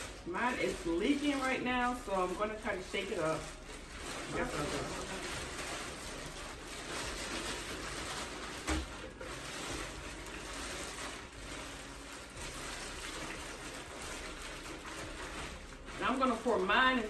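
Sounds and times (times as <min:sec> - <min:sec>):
plastic bag rustling: 0:00.0 - 0:17.0.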